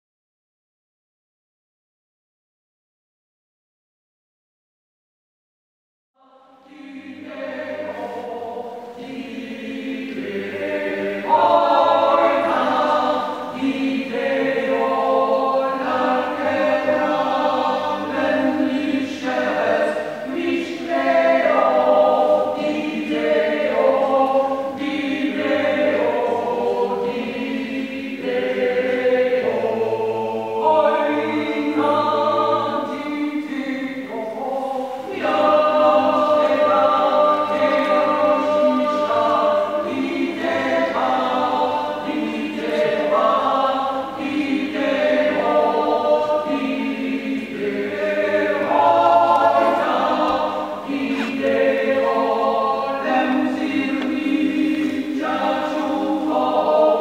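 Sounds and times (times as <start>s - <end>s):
choir singing unaccompanied: 6.2s - 57.0s.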